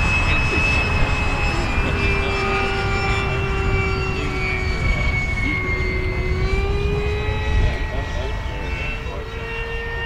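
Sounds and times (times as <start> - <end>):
model jet ducted fan whining: 0.0 - 10.0.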